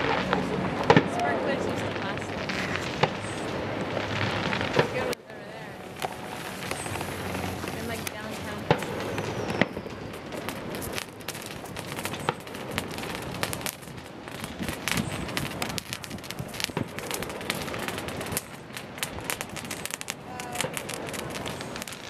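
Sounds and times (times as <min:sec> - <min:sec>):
fireworks popping and banging: 0:00.0 - 0:22.0.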